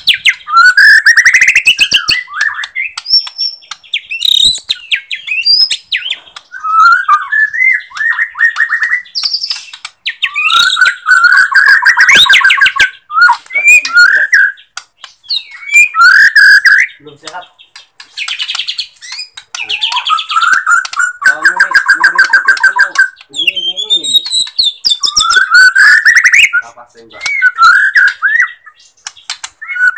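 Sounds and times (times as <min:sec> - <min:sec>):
songbird whistles and trills: 0:00.0 - 0:29.9.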